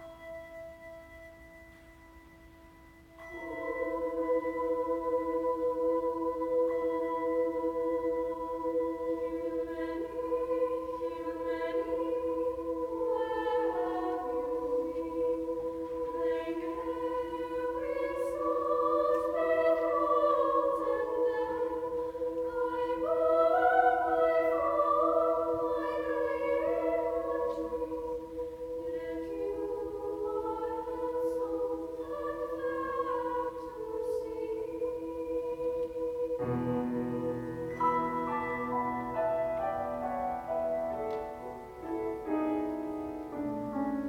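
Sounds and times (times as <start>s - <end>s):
piano: 0.0s - 44.0s
choir singing unaccompanied: 3.2s - 44.0s.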